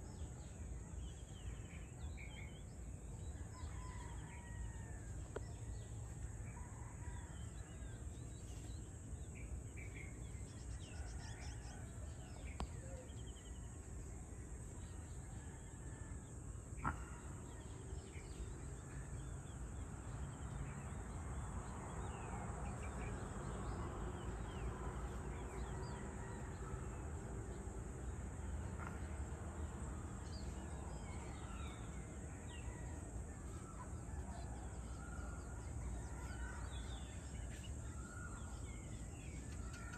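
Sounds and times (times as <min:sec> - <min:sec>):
constant low rumble: 0:00.0 - 0:39.9.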